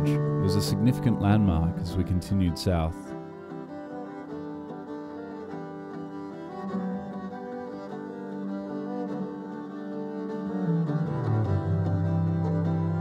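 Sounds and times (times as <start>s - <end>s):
cello: 0.0s - 13.0s
violin: 0.0s - 13.0s.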